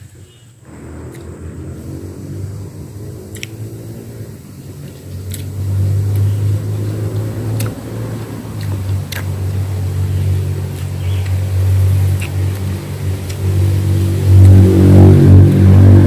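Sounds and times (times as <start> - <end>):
wind buffeting microphone: 0.6 - 16.0.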